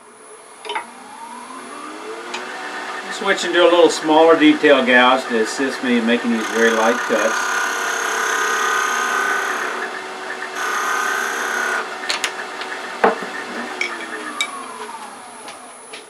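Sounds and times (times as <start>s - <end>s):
wood lathe humming: 0.8s - 16.0s.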